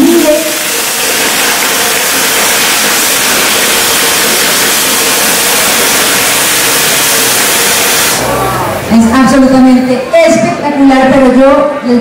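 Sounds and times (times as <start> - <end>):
steady loud hiss: 0.0 - 11.8.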